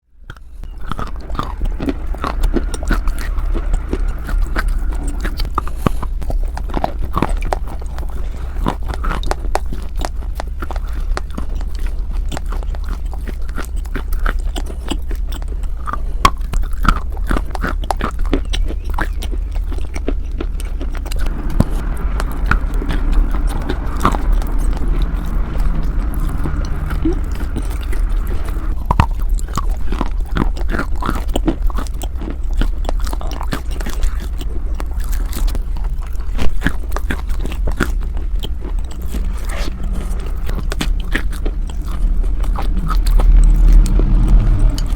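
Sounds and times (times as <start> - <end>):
constant low hum: 0.0 - 44.9.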